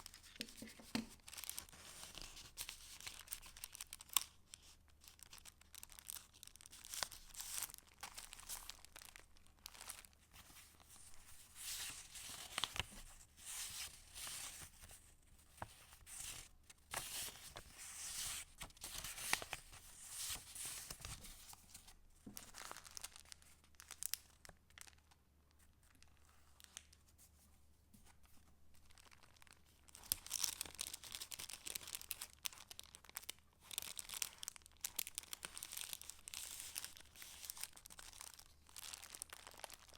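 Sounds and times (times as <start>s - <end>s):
paper rustling and crinkling: 0.0s - 27.4s, 28.0s - 39.9s.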